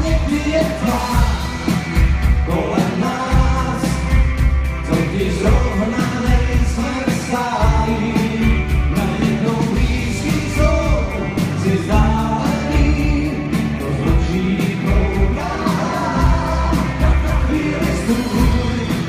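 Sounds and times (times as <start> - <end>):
person singing: 0.0 - 4.2, 4.8 - 19.0
bass guitar: 0.0 - 19.0
drum kit: 0.0 - 19.0
electric guitars: 0.0 - 19.0.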